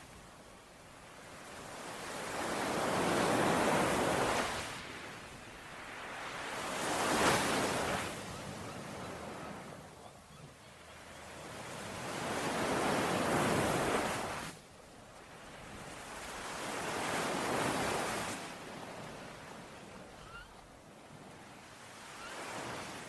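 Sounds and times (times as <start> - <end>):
ocean waves washing ashore: 0.0 - 23.0.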